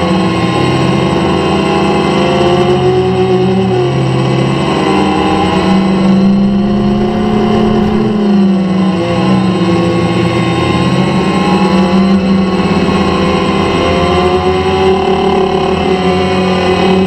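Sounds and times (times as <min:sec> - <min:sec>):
drone propellers buzzing: 0:00.9 - 0:17.0.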